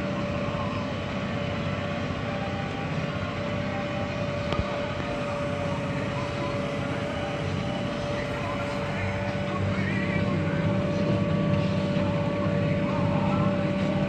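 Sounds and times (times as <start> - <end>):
constant whine: 0.0 - 14.0
tractor engine running: 0.0 - 14.0.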